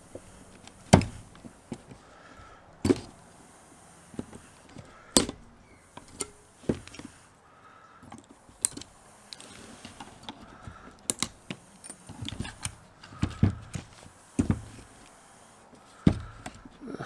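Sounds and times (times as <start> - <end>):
tools and parts clicking and knocking: 0.0 - 3.3, 4.2 - 7.2, 8.0 - 15.2, 15.8 - 16.8.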